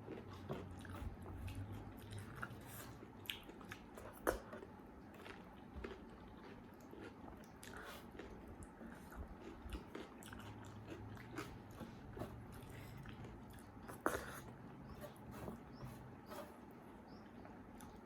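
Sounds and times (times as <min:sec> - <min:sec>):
person chewing: 0:00.0 - 0:15.7, 0:17.8 - 0:18.0.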